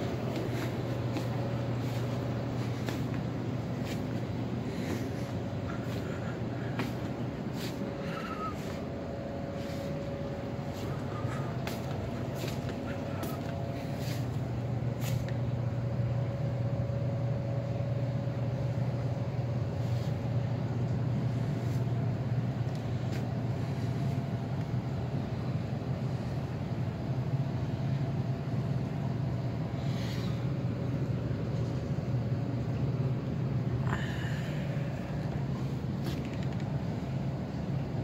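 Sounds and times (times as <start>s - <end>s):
faint steady whine: 0.0s - 38.0s
low mechanical hum: 0.0s - 38.0s.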